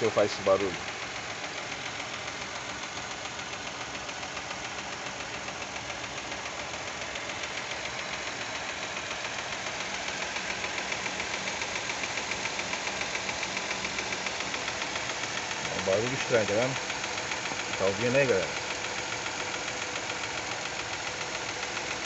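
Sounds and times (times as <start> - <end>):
engine idling: 0.0 - 22.0
fast even engine ticking: 0.0 - 22.0.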